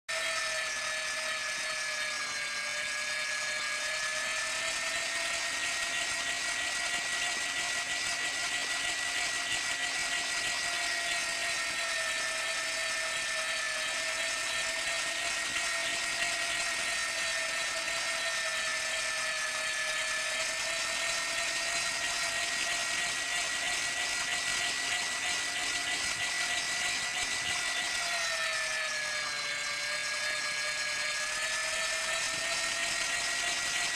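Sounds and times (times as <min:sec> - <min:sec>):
electric meat grinder whining: 0:00.1 - 0:33.9.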